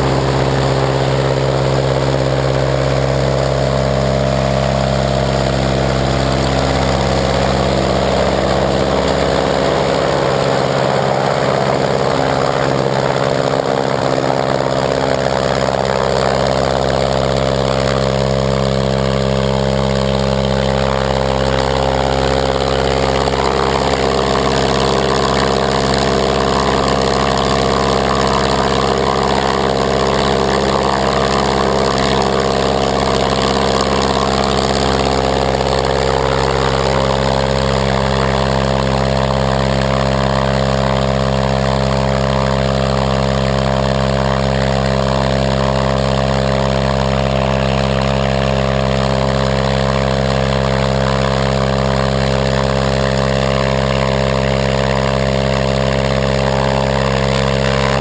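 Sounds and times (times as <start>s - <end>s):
aircraft propeller engine running: 0.0s - 58.0s.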